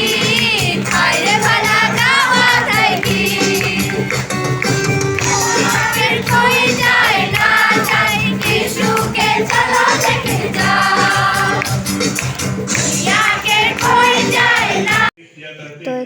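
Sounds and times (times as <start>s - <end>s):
choir singing a carol: 0.0s - 4.0s, 5.3s - 11.8s, 12.8s - 15.1s
instrumental accompaniment: 0.0s - 15.1s.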